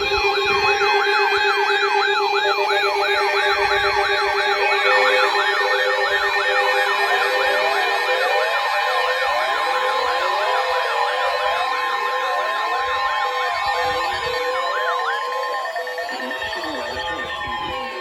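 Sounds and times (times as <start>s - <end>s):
fast repeating siren yelps: 0.0s - 18.0s
rising siren wails: 0.0s - 18.0s
steady alarm tone: 0.0s - 18.0s.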